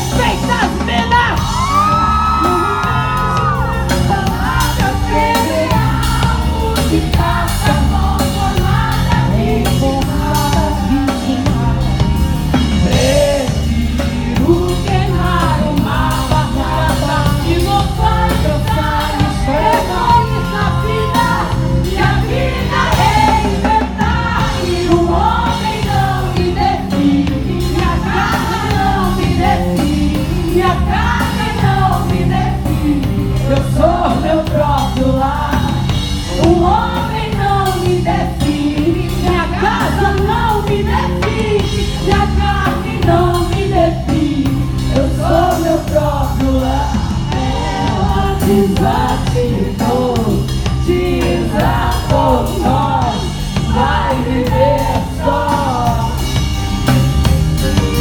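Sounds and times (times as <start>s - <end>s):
person singing: 0.0s - 56.4s
bass: 0.0s - 58.0s
drums: 0.0s - 58.0s.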